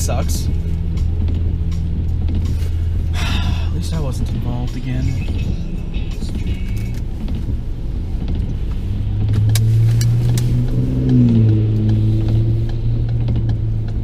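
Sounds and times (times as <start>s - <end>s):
car engine hum: 0.0s - 14.0s
road rumble: 0.0s - 14.0s.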